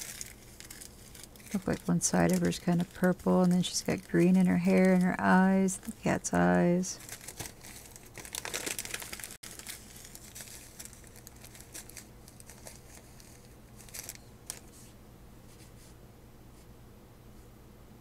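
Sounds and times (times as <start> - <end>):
plastic bags crinkling: 0.0 - 14.8.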